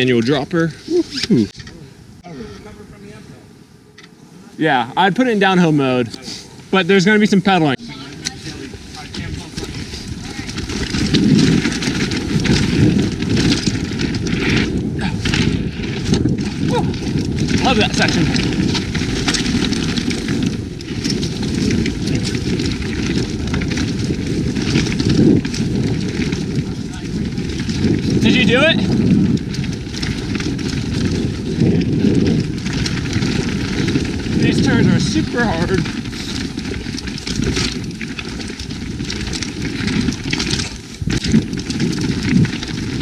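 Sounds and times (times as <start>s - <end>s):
bike rattling: 0.0s - 43.0s
tyres crackling over dirt: 0.0s - 43.0s
wind rumble on microphone: 0.0s - 43.0s.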